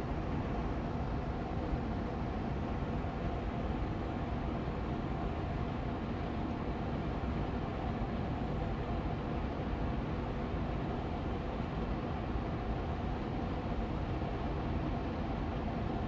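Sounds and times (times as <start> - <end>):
air purifier fan running: 0.0 - 16.0.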